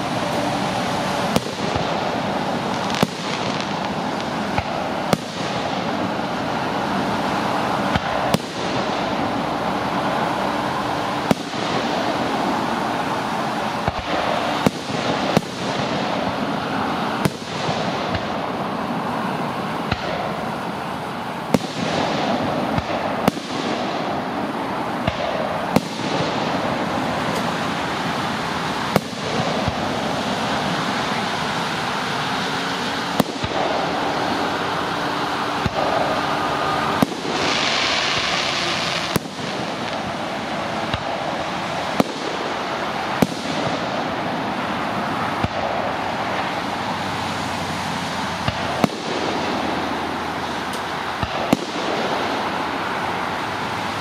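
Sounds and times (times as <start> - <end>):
fireworks bursting with bangs: 0.0 - 54.0
steady background noise: 0.0 - 54.0.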